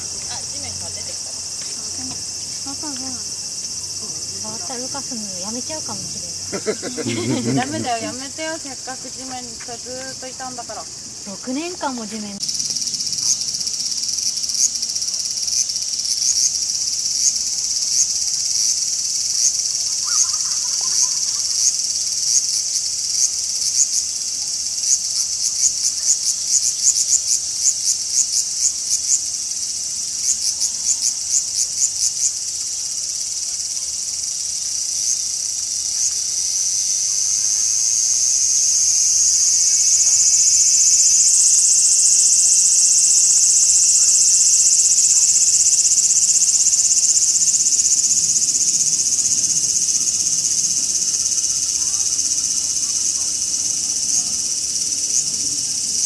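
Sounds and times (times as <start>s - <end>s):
cicadas singing: 0.0s - 56.0s.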